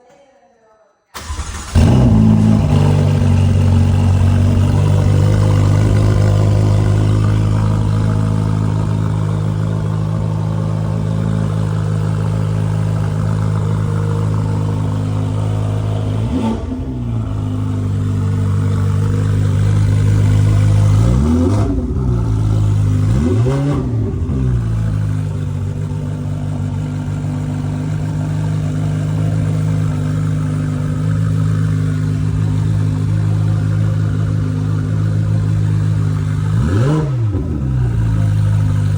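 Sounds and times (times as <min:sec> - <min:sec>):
car engine idling and revving: 0:01.2 - 0:38.9.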